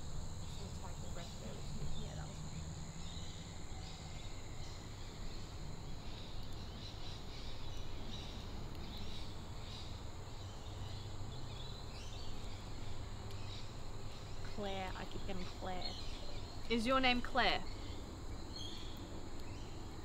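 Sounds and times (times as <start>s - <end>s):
low rumble of wind: 0.0s - 20.0s.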